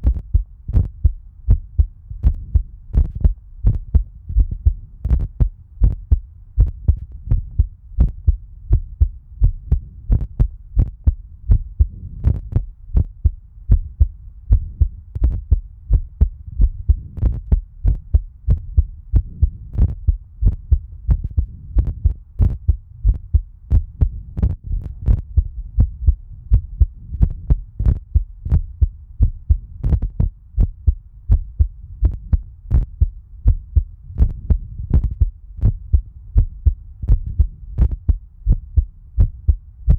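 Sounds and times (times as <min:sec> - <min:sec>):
heartbeat thumps: 0:00.0 - 0:39.9
low hum: 0:00.0 - 0:39.9.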